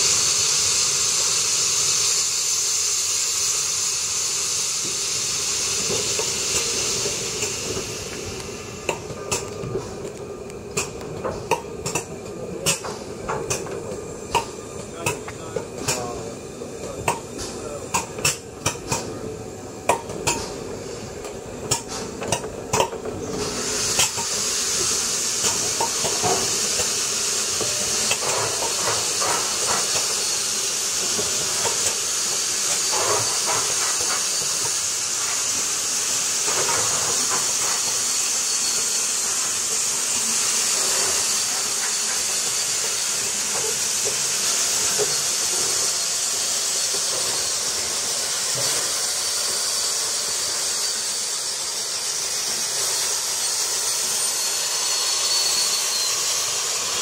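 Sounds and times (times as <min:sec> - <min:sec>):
steam hissing from locomotive: 0:00.0 - 0:57.0.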